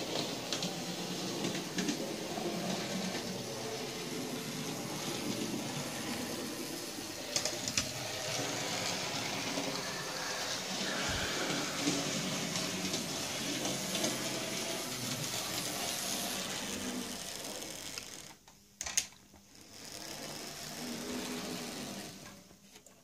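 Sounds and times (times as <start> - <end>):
model locomotive motor whirring: 0.0 - 18.4, 19.5 - 22.6.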